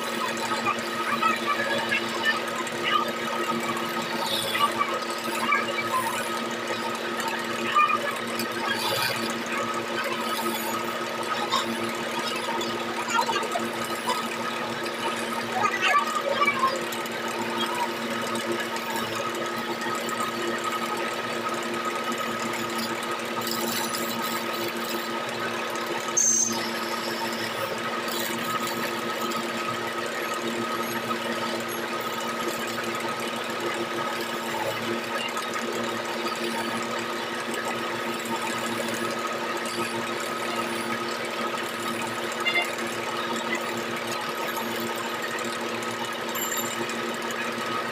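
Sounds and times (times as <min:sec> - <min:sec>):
chisel cutting spinning wood: 0:00.0 - 0:47.9
wood lathe humming: 0:00.0 - 0:47.9.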